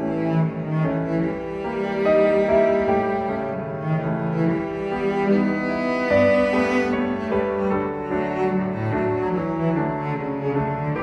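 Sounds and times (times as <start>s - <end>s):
slow bowed string music: 0.0s - 11.0s.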